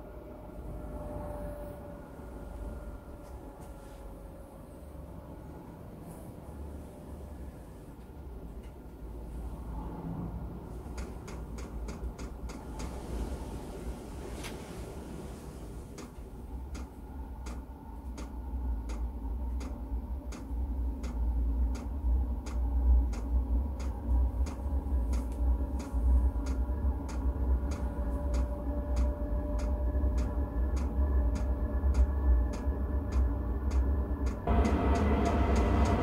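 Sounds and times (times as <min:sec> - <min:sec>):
heater fan and burner rumble: 0:00.0 - 0:36.0.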